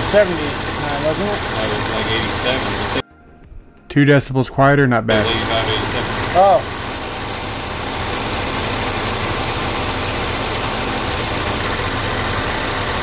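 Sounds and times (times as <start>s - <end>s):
car engine idling: 0.0s - 3.0s, 5.1s - 13.0s.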